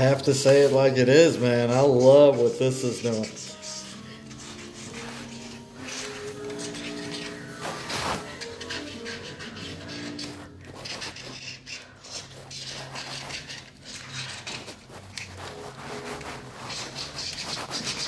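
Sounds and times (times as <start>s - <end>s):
markers scribbling on paper: 0.0s - 18.0s.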